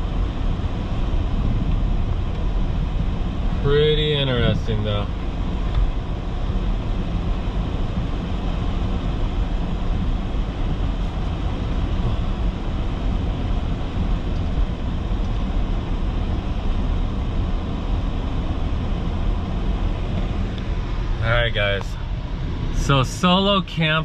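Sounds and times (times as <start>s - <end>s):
engine rumble inside vehicle: 0.0s - 24.0s.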